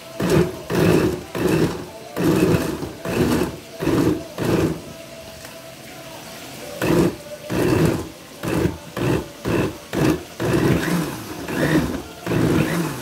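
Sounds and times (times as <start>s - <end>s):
blender motor pulsing: 0.0s - 4.9s, 6.8s - 13.0s.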